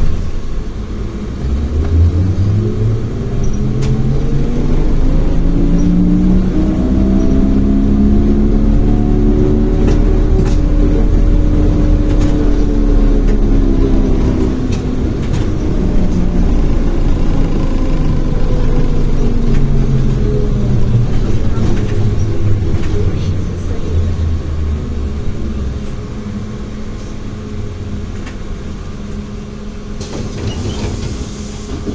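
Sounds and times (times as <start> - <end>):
trolleybus motor whine: 0.0 - 31.9
trolleybus running rumble: 0.0 - 31.9.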